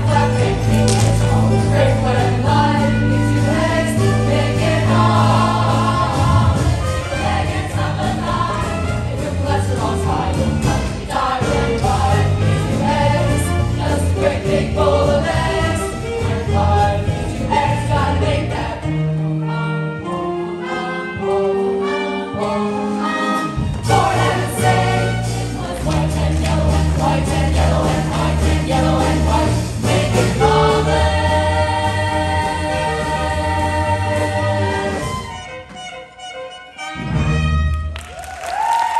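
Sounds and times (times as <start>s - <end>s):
instrumental accompaniment: 0.0s - 38.3s.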